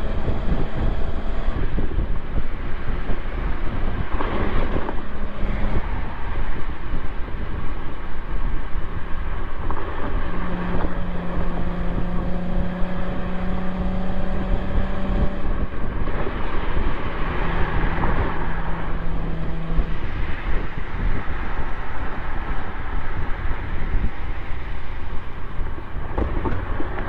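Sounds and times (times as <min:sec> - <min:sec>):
car exhaust drone: 0:00.0 - 0:27.0
wind and road rush: 0:00.0 - 0:27.0.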